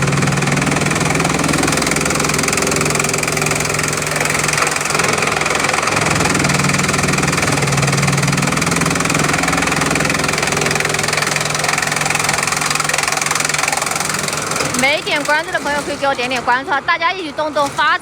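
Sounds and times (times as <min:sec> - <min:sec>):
chipping machine running: 0:00.0 - 0:18.0.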